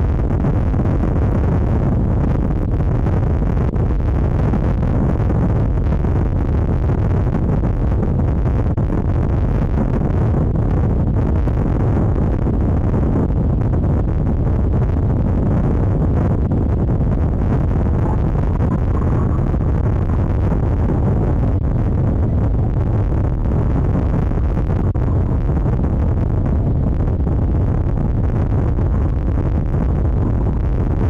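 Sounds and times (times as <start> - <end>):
vehicle rumble: 0.0 - 31.0
wind buffeting microphone: 0.0 - 31.0.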